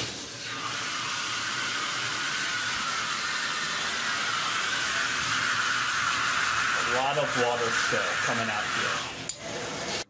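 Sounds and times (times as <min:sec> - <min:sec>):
water pouring from bathtub spout: 0:00.0 - 0:10.0.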